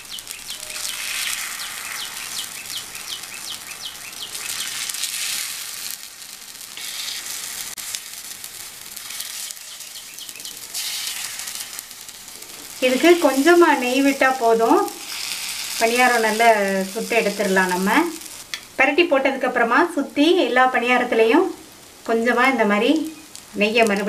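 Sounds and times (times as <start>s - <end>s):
ghee sizzling in a pan: 0.0s - 24.0s.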